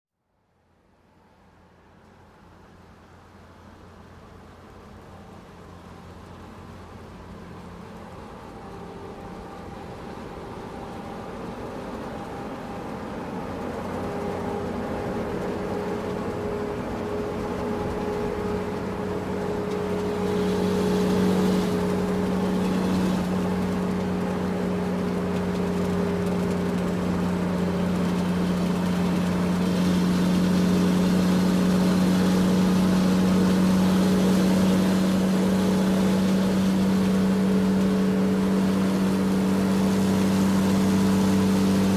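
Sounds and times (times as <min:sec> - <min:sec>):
excavator diesel engine running: 0:03.1 - 0:41.9.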